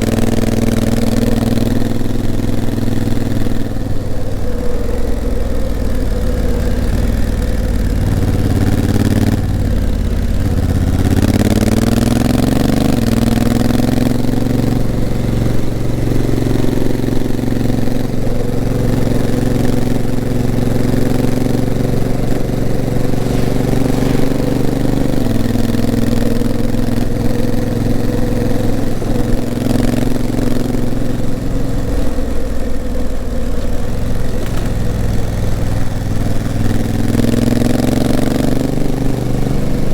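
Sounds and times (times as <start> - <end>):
motorcycle engine pulling: 0.0 - 39.9.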